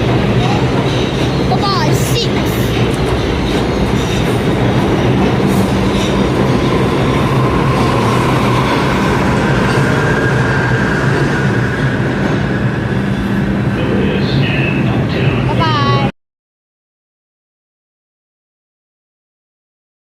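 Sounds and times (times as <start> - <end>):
subway train rumble and rail clatter: 0.0 - 16.1.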